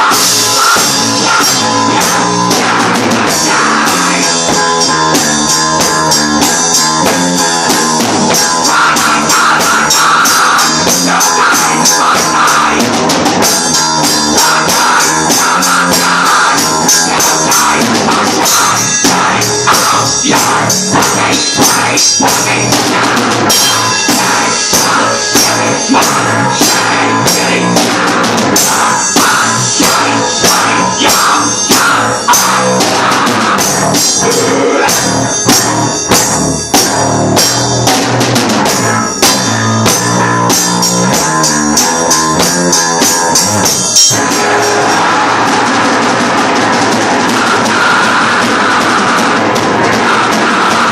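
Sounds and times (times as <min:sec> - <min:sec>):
drum kit fast beat: 0:00.0 - 0:50.9
rock band playing: 0:00.0 - 0:50.9.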